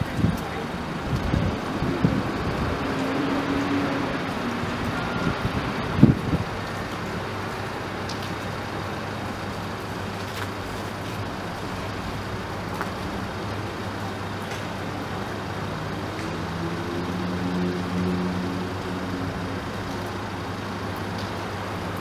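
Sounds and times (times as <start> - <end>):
urban background noise: 0.0 - 22.0
vehicle engine hum: 0.0 - 22.0.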